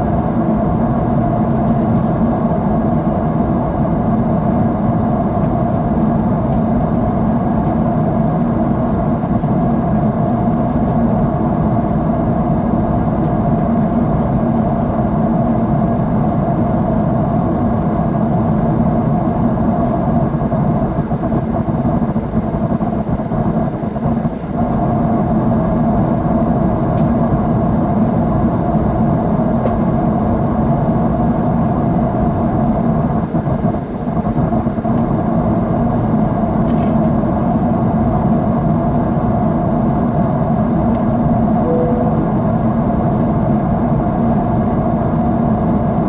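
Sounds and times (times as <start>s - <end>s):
airliner cabin engine drone: 0.0s - 30.9s, 38.7s - 46.0s.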